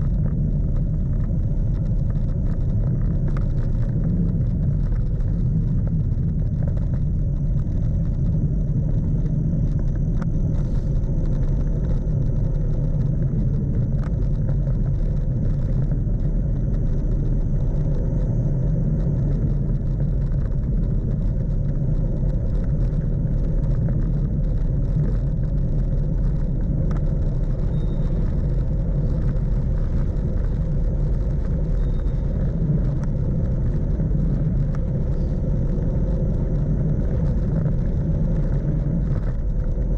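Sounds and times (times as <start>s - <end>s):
bicycle tyre noise on asphalt: 0.0s - 39.9s
wind buffeting microphone: 0.0s - 39.9s.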